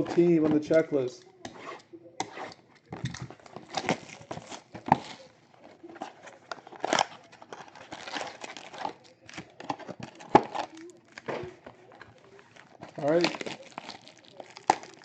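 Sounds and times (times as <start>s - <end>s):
wrappers crinkling: 0.0s - 15.0s
packaging tearing: 1.6s - 15.0s.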